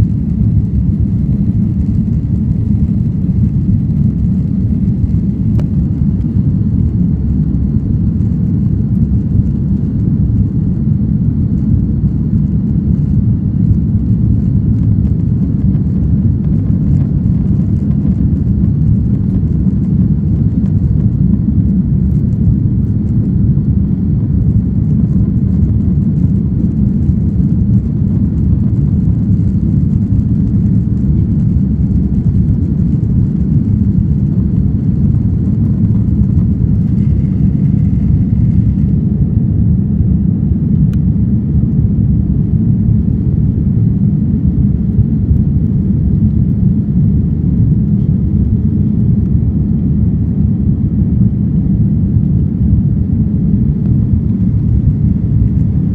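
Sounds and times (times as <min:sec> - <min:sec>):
aircraft cabin engine rumble: 0:00.0 - 0:55.9.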